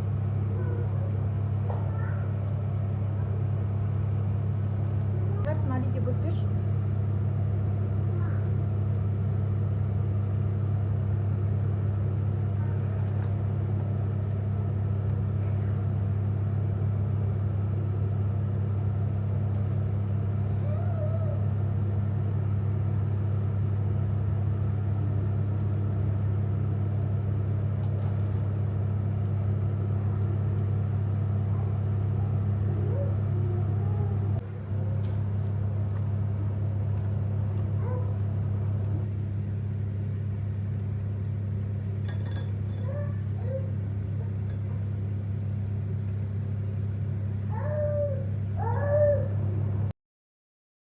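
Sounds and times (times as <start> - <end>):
loud low hum: 0.0 - 49.9.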